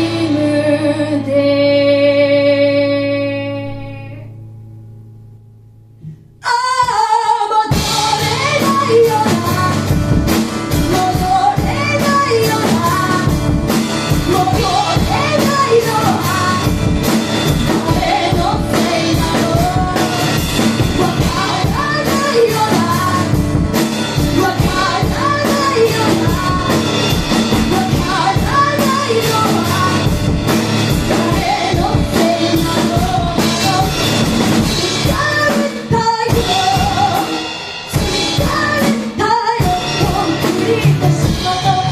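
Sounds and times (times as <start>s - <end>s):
drum kit: 0.0s - 0.8s, 7.6s - 41.9s
woman singing: 0.0s - 4.4s, 6.4s - 41.9s
electric guitar: 7.7s - 41.9s.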